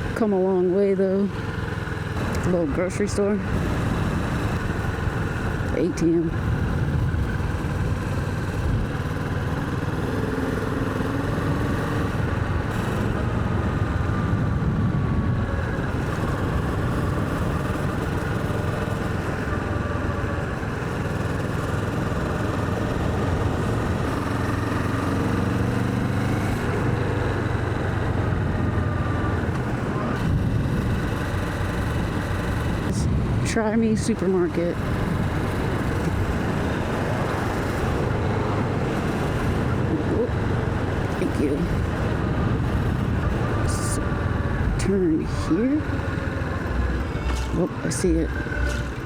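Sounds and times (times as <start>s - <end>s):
motorcycle engine cruising: 0.0s - 49.0s.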